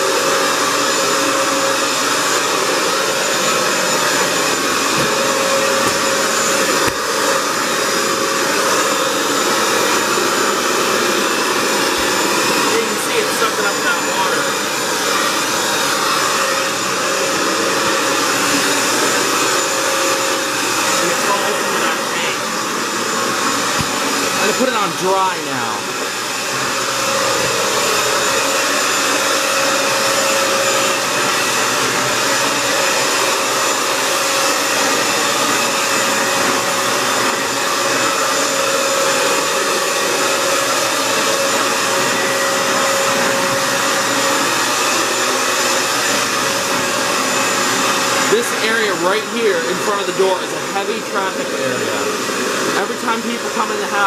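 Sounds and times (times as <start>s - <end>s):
floor cleaner motor whining: 0.0s - 54.0s.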